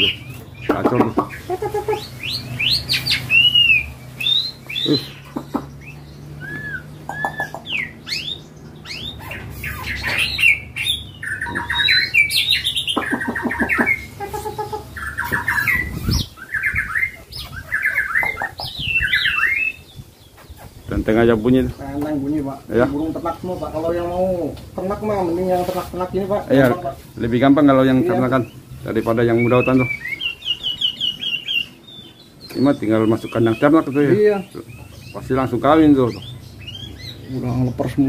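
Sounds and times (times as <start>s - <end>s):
songbirds singing: 0.0s - 38.0s.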